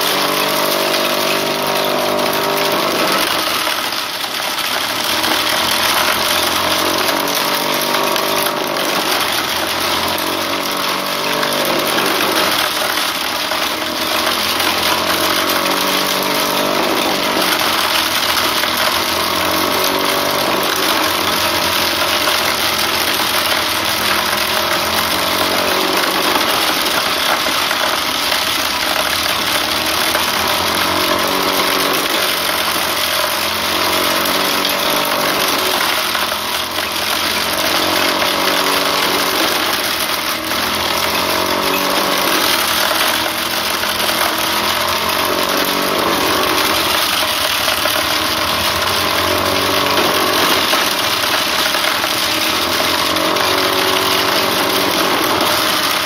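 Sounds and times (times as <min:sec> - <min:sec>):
corn sheller rushing noise: 0:00.0 - 0:56.0
small engine running: 0:00.0 - 0:56.0.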